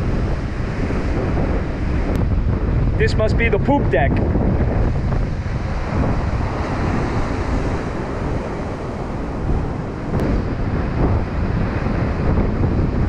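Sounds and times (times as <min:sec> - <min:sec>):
ocean surf: 0:00.0 - 0:13.0
wind blowing across microphone: 0:00.0 - 0:13.0.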